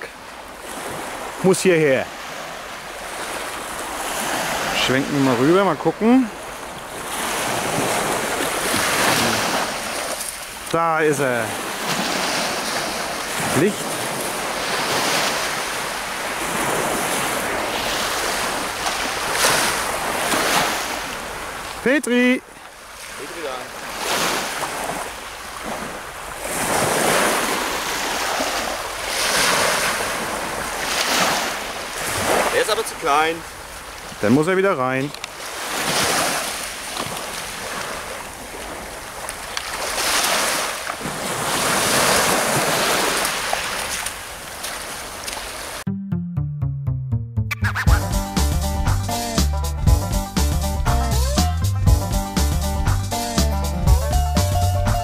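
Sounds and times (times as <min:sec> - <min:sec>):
surf washing onto beach: 0:00.0 - 0:45.9.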